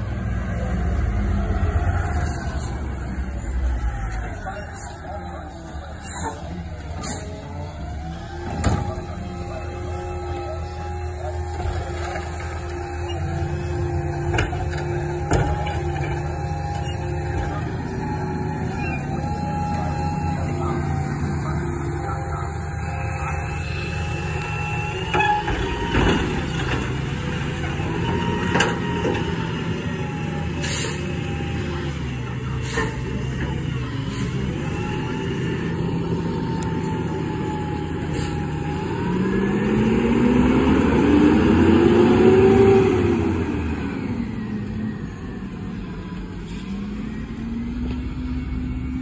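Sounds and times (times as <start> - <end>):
garbage truck diesel engine: 0.0 - 49.0.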